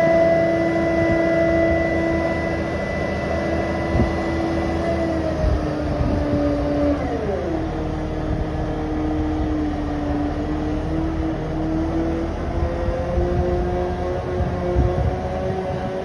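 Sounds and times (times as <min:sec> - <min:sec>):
fire truck engine running: 0:00.0 - 0:16.0.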